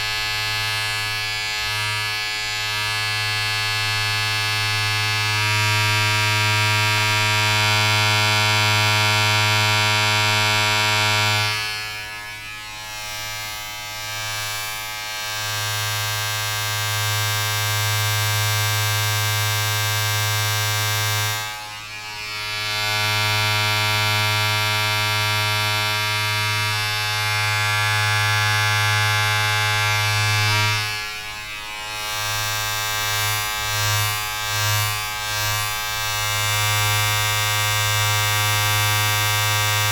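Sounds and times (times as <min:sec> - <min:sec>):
electric appliance buzzing: 0:00.0 - 0:39.9.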